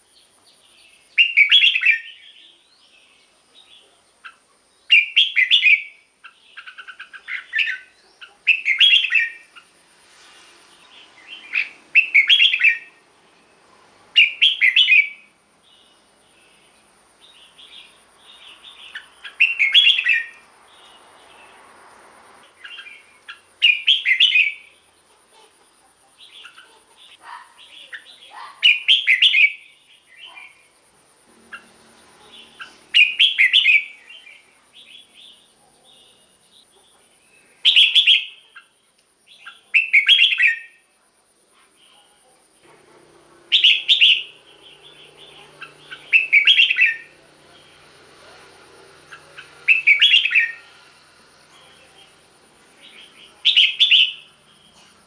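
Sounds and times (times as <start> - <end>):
bird singing warbled phrases: 0.0 - 9.7, 10.8 - 13.6, 14.2 - 21.6, 22.4 - 30.8, 31.4 - 40.9, 43.5 - 55.0
soft bird chirps: 0.0 - 40.9, 41.5 - 55.0.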